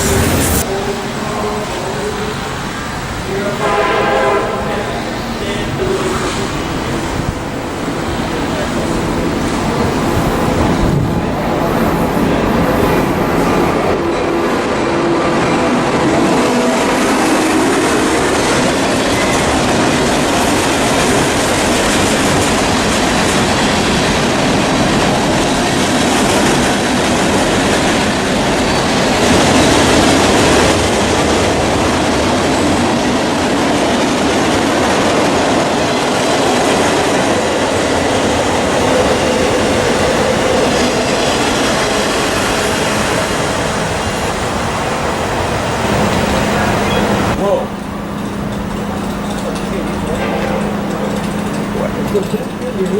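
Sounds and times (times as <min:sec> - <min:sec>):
train wheels rushing on rails: 0:00.0 - 0:52.9.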